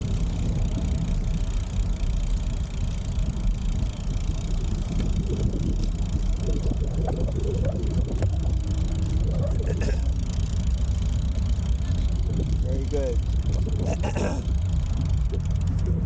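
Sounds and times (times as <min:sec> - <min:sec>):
faint rattles and clicks: 0:00.0 - 0:16.0
wind rumble on microphone: 0:00.0 - 0:16.0.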